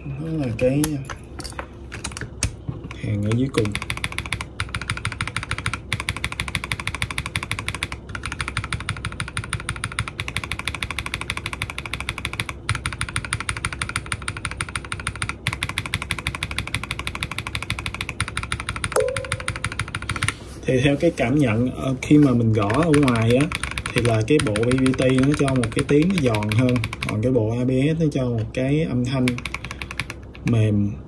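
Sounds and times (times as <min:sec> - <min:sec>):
fast mechanical keyboard typing: 0:03.0 - 0:20.3, 0:22.0 - 0:27.8, 0:29.0 - 0:30.7.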